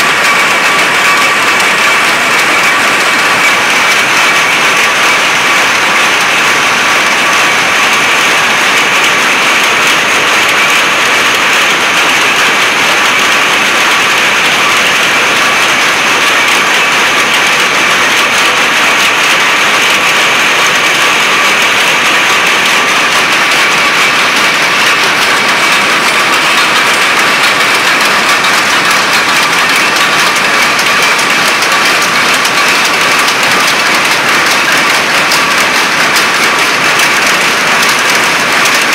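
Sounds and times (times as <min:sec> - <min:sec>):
power looms clattering: 0:00.0 - 0:38.9.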